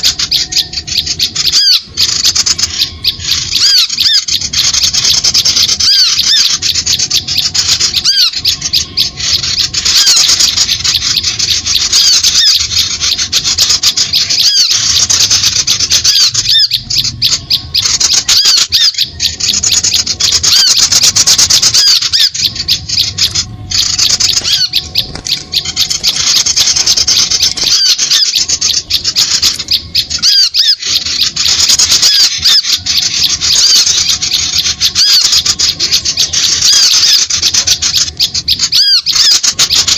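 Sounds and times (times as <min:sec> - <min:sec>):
small birds chattering and squawking: 0:00.0 - 0:39.9.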